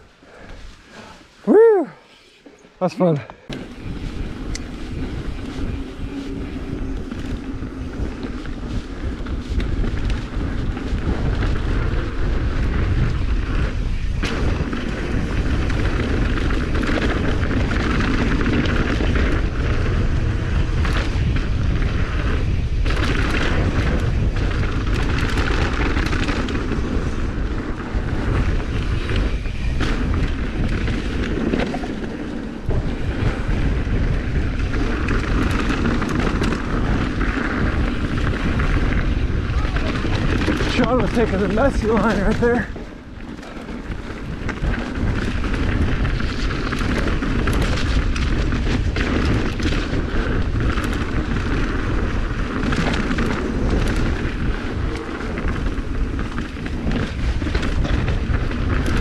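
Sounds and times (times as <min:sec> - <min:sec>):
tyres hissing on dirt trail: 0:00.0 - 0:59.0
wind buffeting microphone: 0:03.4 - 0:59.0
bike knocks and rattles: 0:03.5 - 0:59.0.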